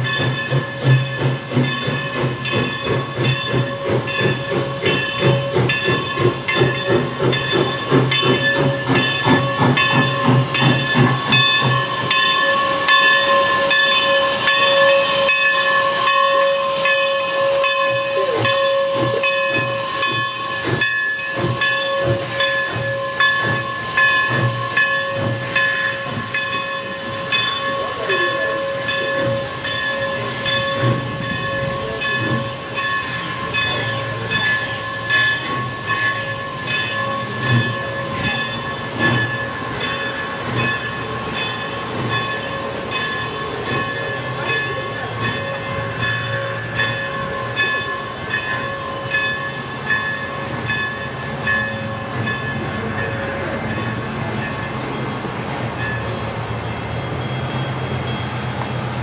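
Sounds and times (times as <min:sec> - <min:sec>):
steam hiss: 0:00.0 - 0:59.0
train wheels clacking over joints: 0:00.0 - 0:59.0.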